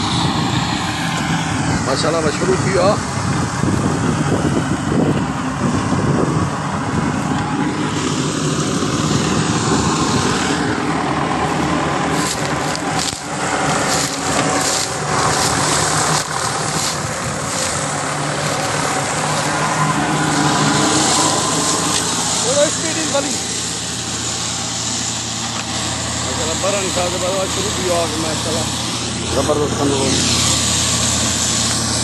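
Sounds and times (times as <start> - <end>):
mulcher shredding dry cane: 0.0 - 32.0
tractor engine running: 0.0 - 32.0.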